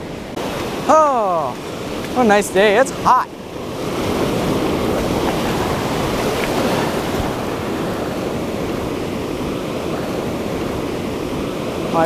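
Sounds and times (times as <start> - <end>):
waves breaking on sand: 0.0 - 12.0.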